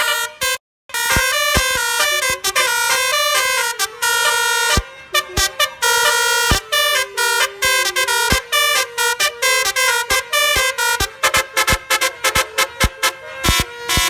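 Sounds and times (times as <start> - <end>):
musical air horn melody: 0.0 - 14.0.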